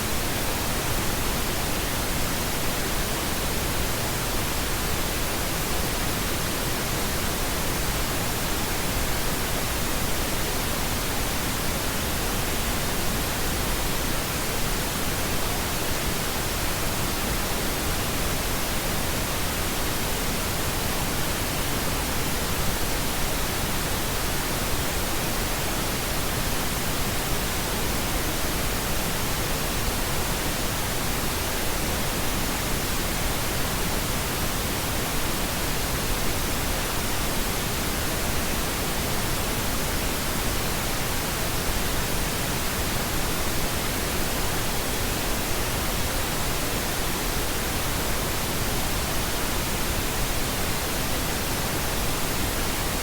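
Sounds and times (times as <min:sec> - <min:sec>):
pink noise hiss: 0:00.0 - 0:53.0.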